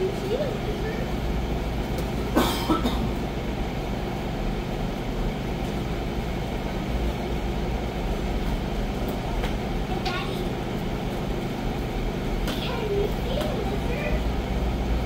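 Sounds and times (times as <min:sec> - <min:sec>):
large fans rushing air: 0:00.0 - 0:15.0.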